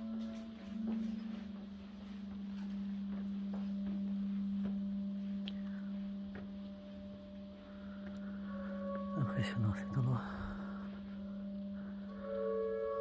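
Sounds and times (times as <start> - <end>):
low humming drone: 0.0 - 13.0.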